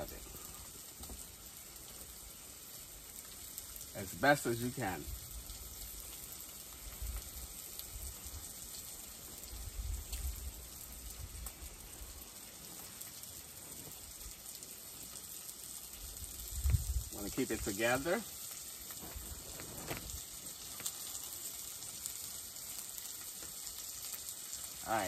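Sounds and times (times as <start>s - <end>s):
bacon sizzling in a frying pan: 0.0s - 25.0s.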